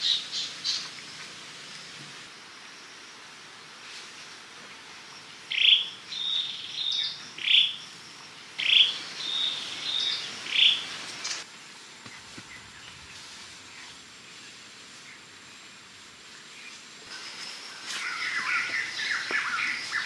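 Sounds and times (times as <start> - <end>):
faint high hiss: 0.0 - 20.0.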